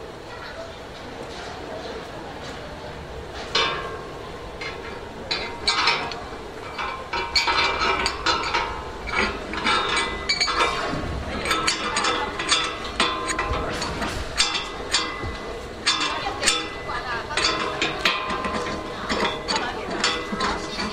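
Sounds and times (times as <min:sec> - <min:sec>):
metal shackle clinking: 0:03.6 - 0:20.9.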